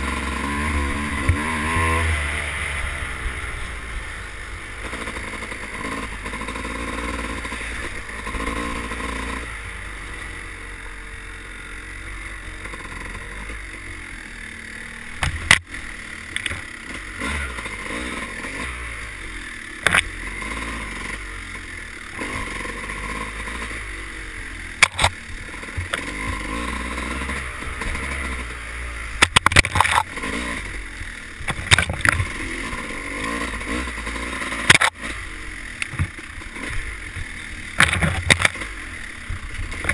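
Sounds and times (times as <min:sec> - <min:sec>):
trail bike engine revving: 0:00.0 - 0:39.9.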